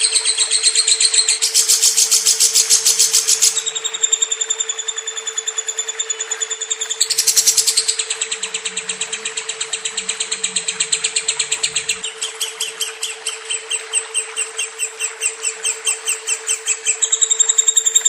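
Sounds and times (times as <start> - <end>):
lovebird trilling: 0.0 - 18.0
steady low hum: 0.0 - 18.0.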